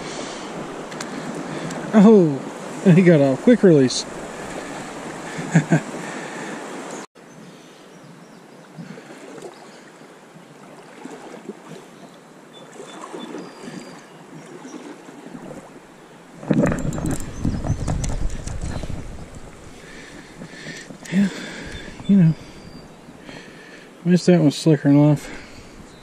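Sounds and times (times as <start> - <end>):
flowing river water: 0.0 - 26.0.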